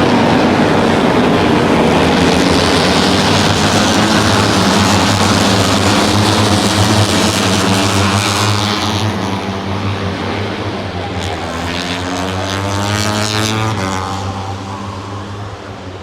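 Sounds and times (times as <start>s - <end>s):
racing motorcycles at high revs: 0.0s - 16.0s.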